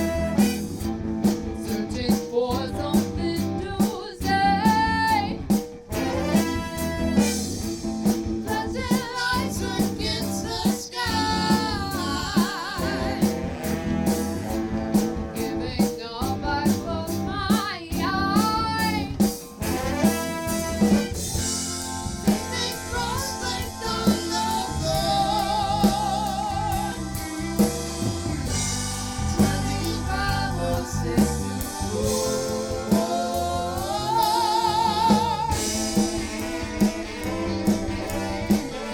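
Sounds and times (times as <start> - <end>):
drum kit beat: 0.0 - 38.9
soul band playing live: 0.0 - 38.9
person singing with vibrato: 1.6 - 7.7, 8.4 - 21.3, 21.9 - 38.9.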